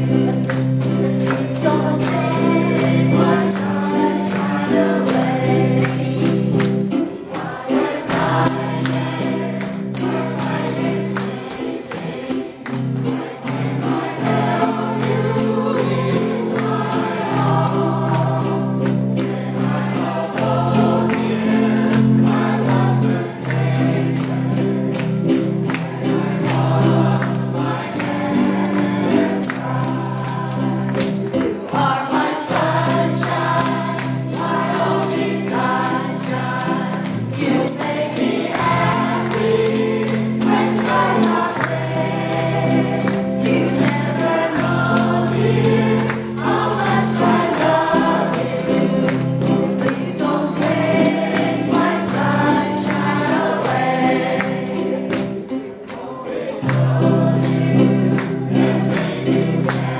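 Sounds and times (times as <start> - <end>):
amplified voice singing: 0.0 - 25.0, 25.9 - 59.9
choir singing: 0.0 - 59.9
ukulele: 0.0 - 59.9.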